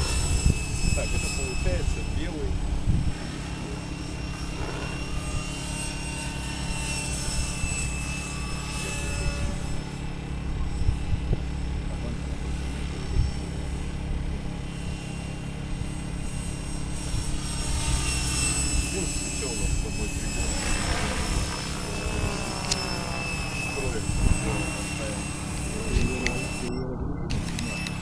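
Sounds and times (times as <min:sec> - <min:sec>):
high motor whine: 0:00.0 - 0:28.0
model helicopter rotor drone: 0:00.0 - 0:28.0.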